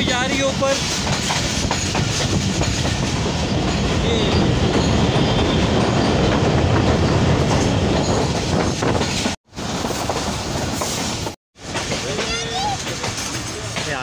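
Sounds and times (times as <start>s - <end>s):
clickety-clack of wheels: 0.0s - 14.0s
train wheels rumbling on rails: 0.0s - 14.0s.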